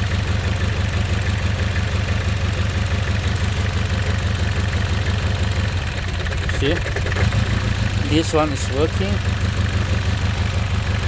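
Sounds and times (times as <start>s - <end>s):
car engine idling rough: 0.0s - 11.0s.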